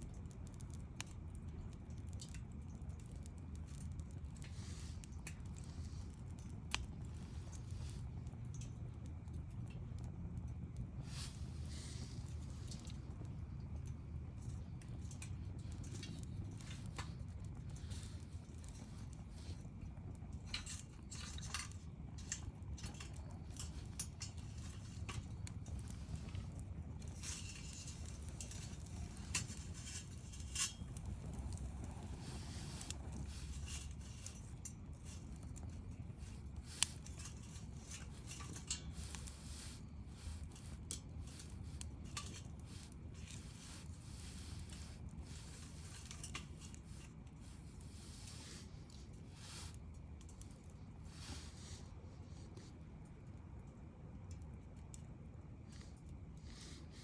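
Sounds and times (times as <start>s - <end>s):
bonfire crackling: 0.0s - 57.0s
low fire rumble: 0.0s - 57.0s.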